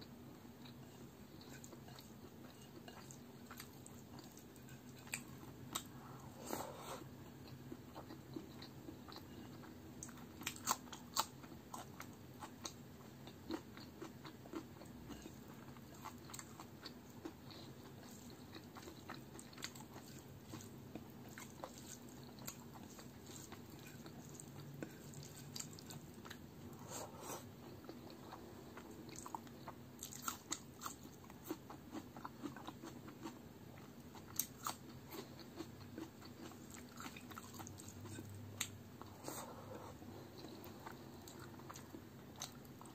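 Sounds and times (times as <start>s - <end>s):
chewing and lip smacking: 0.6s - 5.9s, 7.4s - 26.4s, 27.6s - 39.1s, 40.3s - 42.9s.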